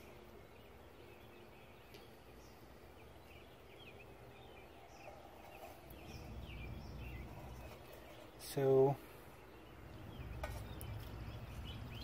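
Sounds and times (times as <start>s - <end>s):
faint bird chirps: 0.0s - 12.0s
low background noise: 0.0s - 12.0s.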